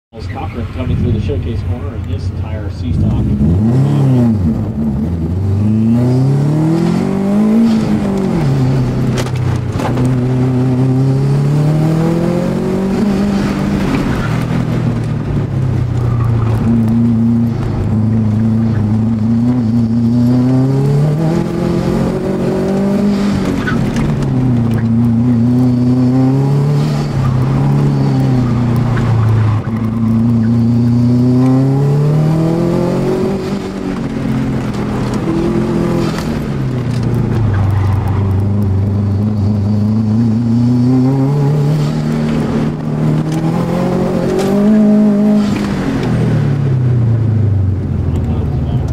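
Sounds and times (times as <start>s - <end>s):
car engine revving: 0.2s - 48.9s.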